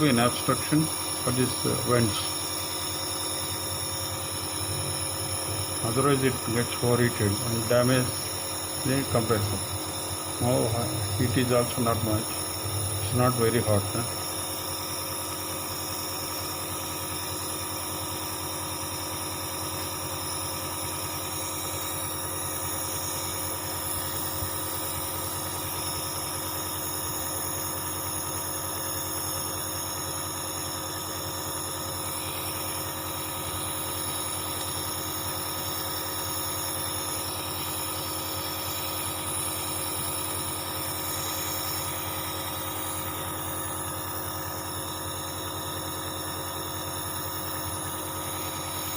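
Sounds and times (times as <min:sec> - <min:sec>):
nebulizer compressor humming: 0:00.0 - 0:48.9.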